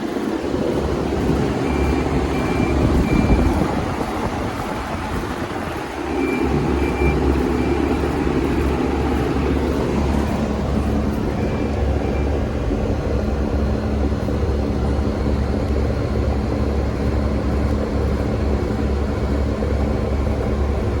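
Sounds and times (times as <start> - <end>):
constant rushing noise: 0.0 - 21.0.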